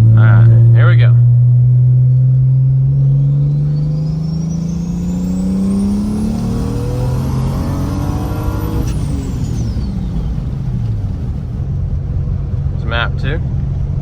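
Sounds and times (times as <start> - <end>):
car engine accelerating: 0.0 - 14.0
turbo whine: 0.0 - 14.0.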